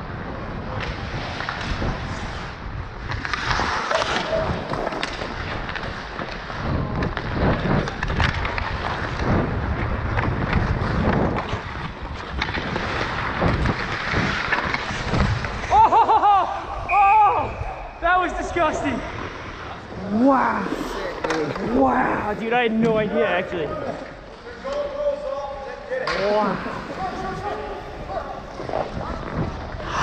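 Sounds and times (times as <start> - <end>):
skates scraping on ice: 0.6 - 16.0, 18.1 - 30.0.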